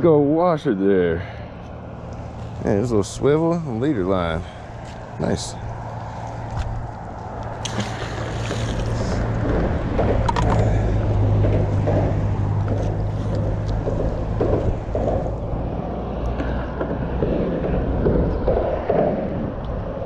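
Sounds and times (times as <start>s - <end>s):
low engine hum: 1.2s - 20.0s
wind buffeting microphone: 2.0s - 20.0s.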